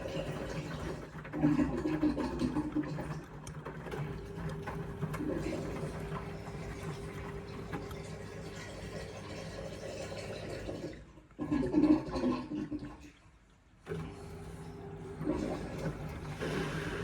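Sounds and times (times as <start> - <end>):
washing machine motor humming: 0.0 - 11.0, 13.8 - 17.0.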